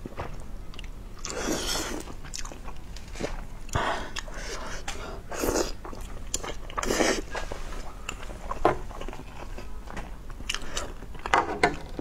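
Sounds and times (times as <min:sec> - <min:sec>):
chewing: 0:00.7 - 0:12.0.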